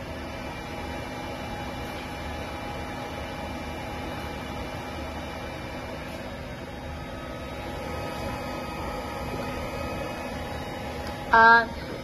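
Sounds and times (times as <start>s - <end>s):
faint hum: 0.0s - 12.0s
hot-air heaters and fans blowing: 0.0s - 12.0s.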